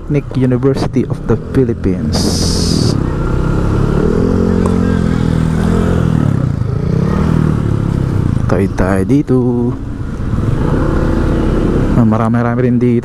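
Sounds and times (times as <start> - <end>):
low rumble of traffic: 0.0 - 13.0
vehicle engine running: 0.0 - 13.0.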